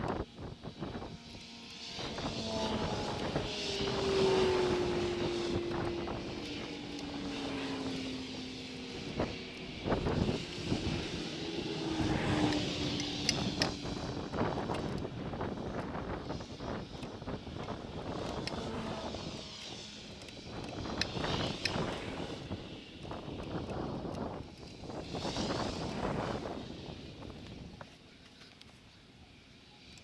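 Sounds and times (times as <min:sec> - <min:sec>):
passing vehicle engine: 0:00.1 - 0:27.8.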